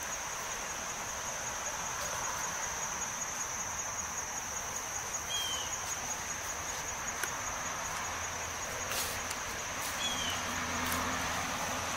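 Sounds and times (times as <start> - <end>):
insects chirring: 0.0 - 11.9.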